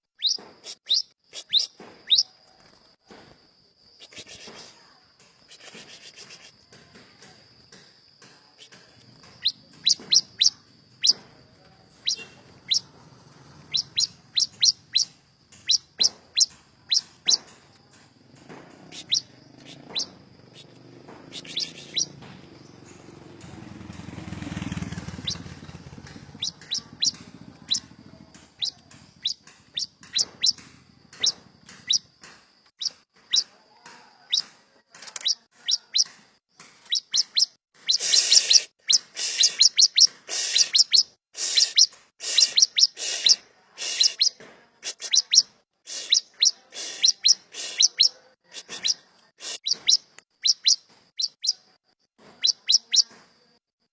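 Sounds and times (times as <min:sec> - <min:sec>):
birds chirping: 0:00.1 - 0:02.9, 0:05.2 - 0:53.6.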